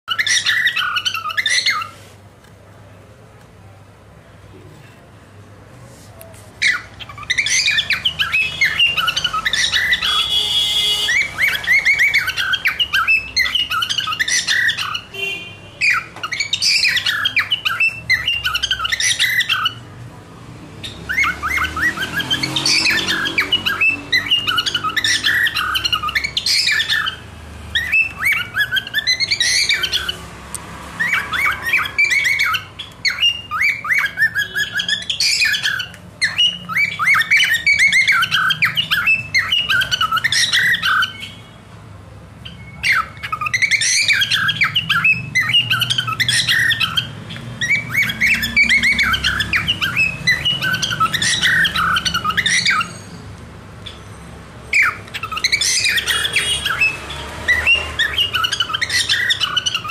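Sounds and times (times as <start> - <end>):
cockatiel chirping: 0.1 - 2.1, 6.6 - 19.8, 20.8 - 30.2, 31.0 - 41.5, 42.4 - 53.2, 53.8 - 59.9.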